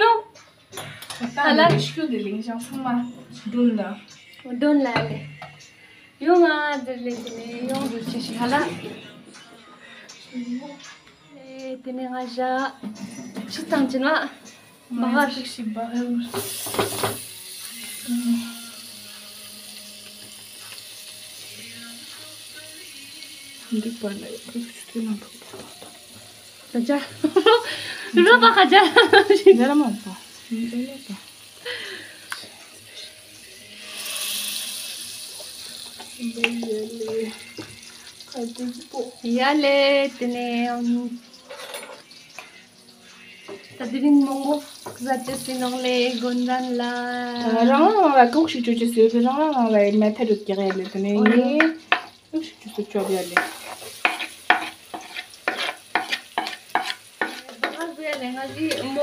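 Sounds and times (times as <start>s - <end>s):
hot oil sizzling in a pot: 0.0s - 8.8s, 12.6s - 59.0s.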